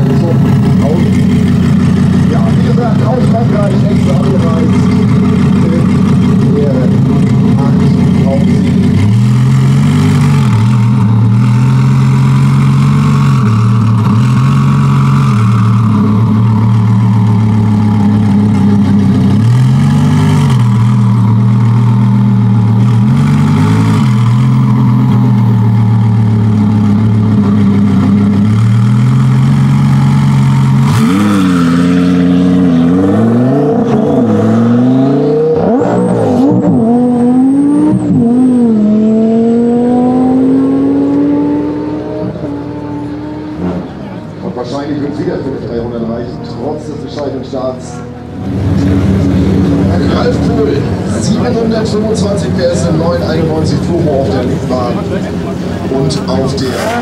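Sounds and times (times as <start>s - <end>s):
sports car engine revving: 0.0s - 57.0s
car accelerating through upshifts: 3.2s - 57.0s.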